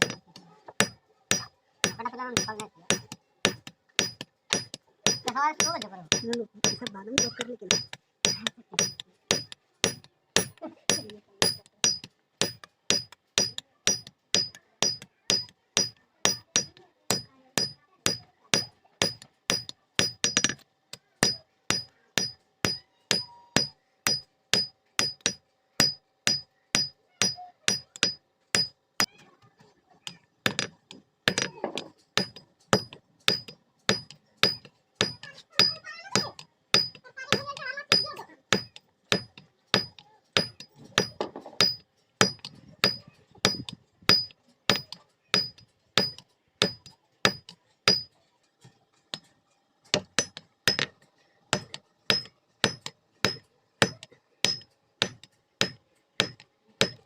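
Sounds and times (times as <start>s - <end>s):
hammer ringing on anvil: 0.8s - 20.6s, 21.2s - 28.8s, 31.3s - 48.1s, 50.0s - 50.9s, 51.6s - 57.0s.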